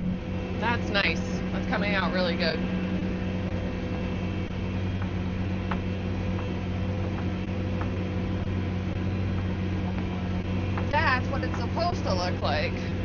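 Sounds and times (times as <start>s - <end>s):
tractor engine drone: 0.0s - 13.0s.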